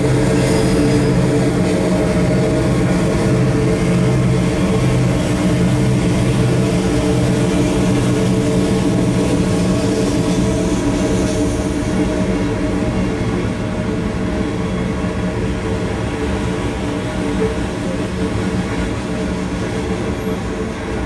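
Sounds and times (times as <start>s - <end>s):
locomotive engine drone: 0.0s - 21.0s.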